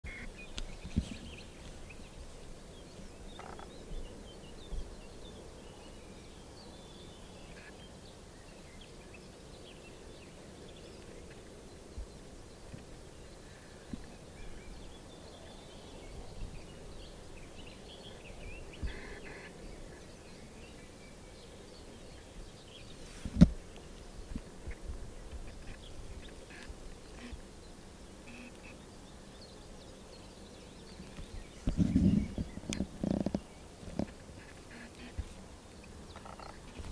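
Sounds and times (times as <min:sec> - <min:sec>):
faint bird chirps: 0:00.0 - 0:23.9, 0:25.4 - 0:27.5, 0:28.1 - 0:36.9
faint background hiss: 0:00.0 - 0:36.9.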